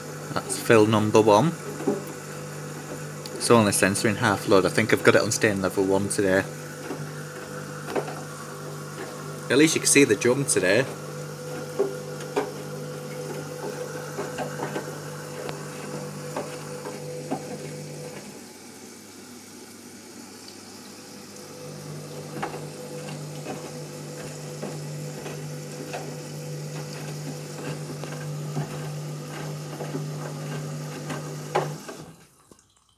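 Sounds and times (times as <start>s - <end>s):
washing machine low hum: 0.0s - 32.4s
water sloshing in washing machine: 0.0s - 32.9s.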